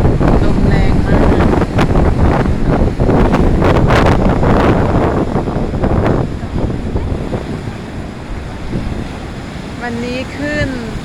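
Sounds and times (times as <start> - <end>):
surf crashing on rocks: 0.0 - 11.0
wind buffeting microphone: 0.0 - 11.0.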